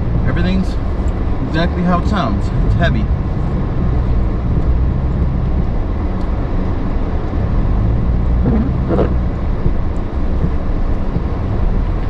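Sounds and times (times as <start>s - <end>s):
pickup truck engine humming: 0.0s - 12.0s.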